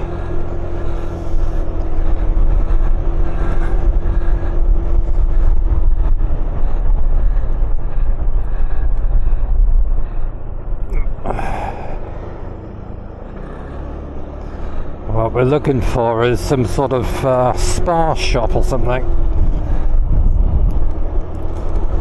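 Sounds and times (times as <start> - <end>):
motor scooter engine rumble: 0.0 - 22.0.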